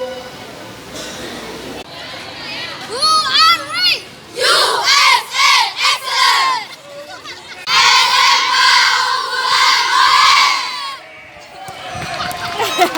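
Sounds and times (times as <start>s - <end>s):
young people shouting and cheering: 1.9s - 12.9s.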